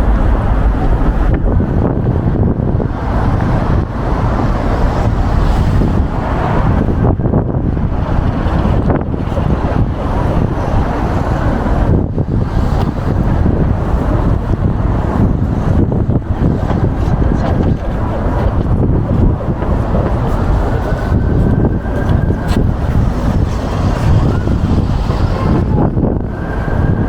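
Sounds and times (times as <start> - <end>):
passing city traffic: 0.0 - 27.0
wind buffeting microphone: 0.0 - 27.0.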